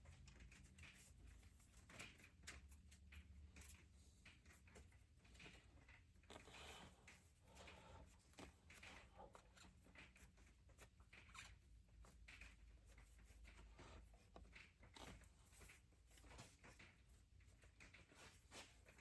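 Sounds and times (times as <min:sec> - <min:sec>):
faint handling ticks and rustles: 0:00.0 - 0:19.0.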